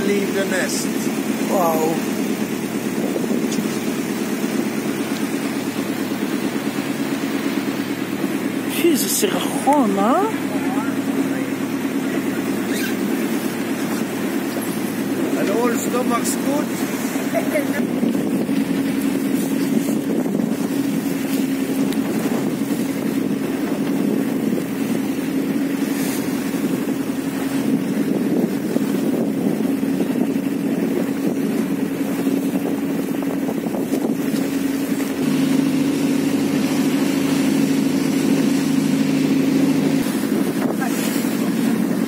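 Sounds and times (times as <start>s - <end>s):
boat engine humming: 0.0s - 42.0s
water rushing past hull: 0.0s - 42.0s
wind on microphone: 0.8s - 8.7s, 9.5s - 42.0s.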